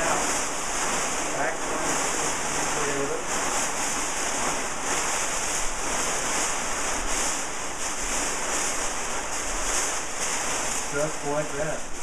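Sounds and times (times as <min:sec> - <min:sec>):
kite fabric rustling: 0:00.0 - 0:12.0.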